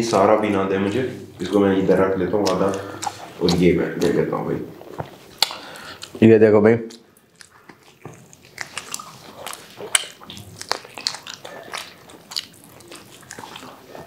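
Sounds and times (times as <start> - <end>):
chewing fried food: 0.0 - 6.3, 6.9 - 14.0.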